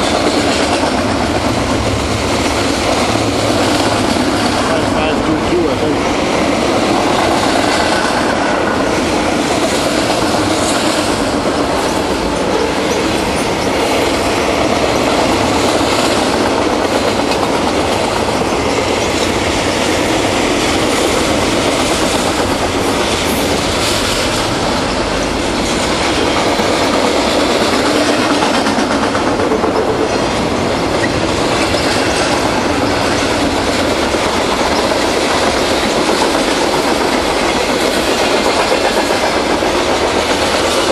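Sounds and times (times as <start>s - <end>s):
freight train cars rolling past: 0.0s - 40.9s.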